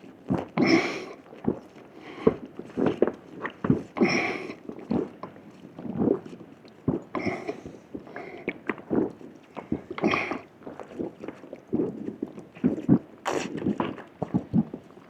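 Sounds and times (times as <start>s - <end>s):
person gulping soda: 0.3s - 15.0s.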